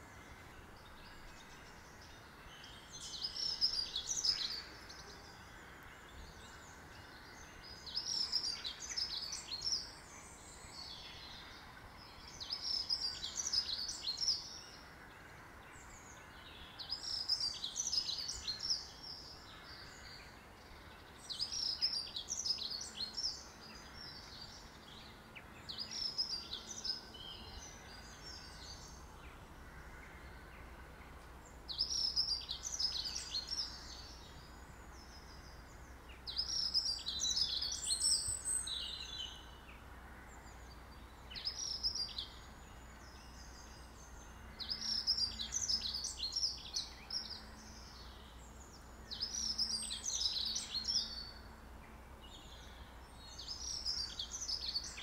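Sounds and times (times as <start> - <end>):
songbird twittering: 0.0 - 14.9, 15.8 - 51.5, 52.2 - 55.0
faint background noise: 0.0 - 55.0.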